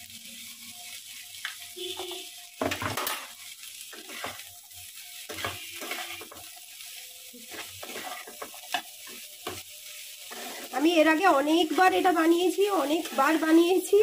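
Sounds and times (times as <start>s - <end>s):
oil sizzling: 0.0s - 14.0s
metal spatula scraping a pan: 1.9s - 6.6s, 7.4s - 14.0s.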